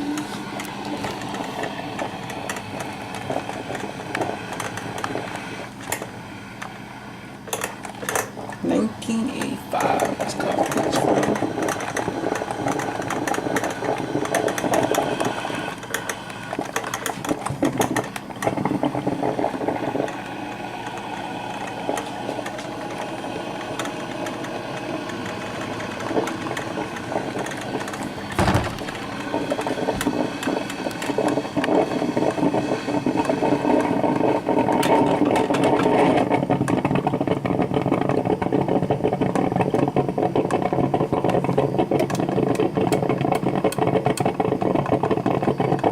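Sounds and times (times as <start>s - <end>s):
coffee maker gurgling: 0.0s - 45.9s.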